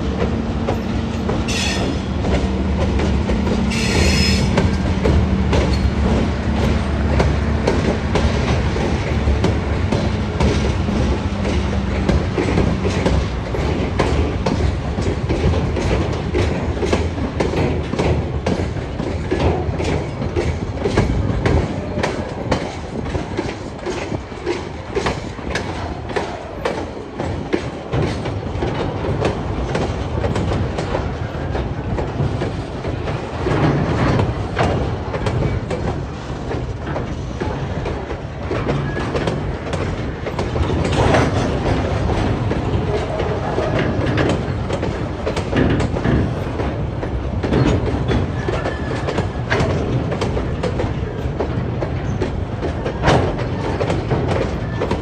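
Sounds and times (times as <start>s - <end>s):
steady train rumble: 0.0s - 55.0s
train wheels clattering over rail joints: 0.0s - 55.0s.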